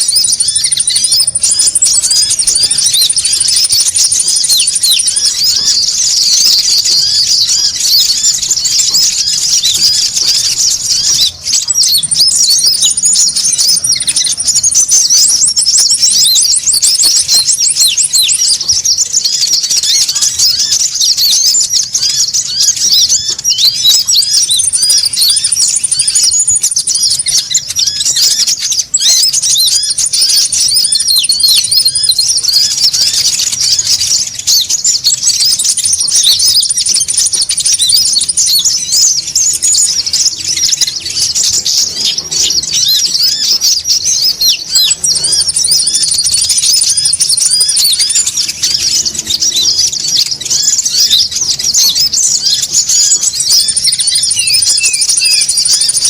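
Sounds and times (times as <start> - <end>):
birds chattering: 0.0 - 56.0
high bird trills: 0.0 - 56.0.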